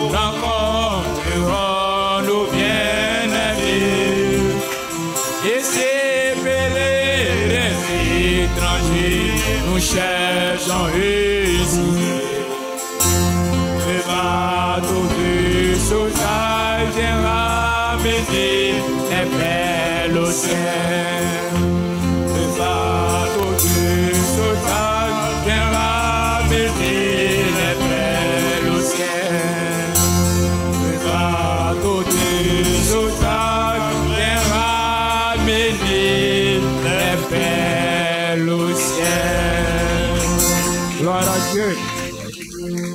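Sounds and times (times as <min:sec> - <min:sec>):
low bass notes: 0:00.0 - 0:05.2, 0:06.4 - 0:29.1, 0:29.8 - 0:42.9
voices singing: 0:00.0 - 0:42.8
acoustic guitar: 0:00.0 - 0:42.9.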